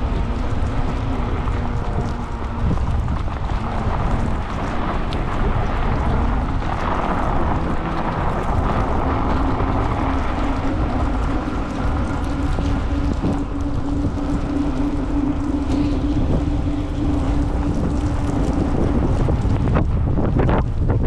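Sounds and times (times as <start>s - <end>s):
low steady hum: 0.0s - 21.0s
wind buffeting microphone: 0.0s - 21.0s.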